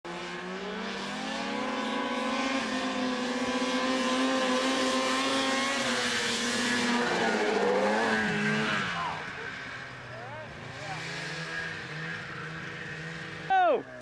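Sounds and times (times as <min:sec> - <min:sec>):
snowmobile engine at full throttle: 0:00.0 - 0:14.0.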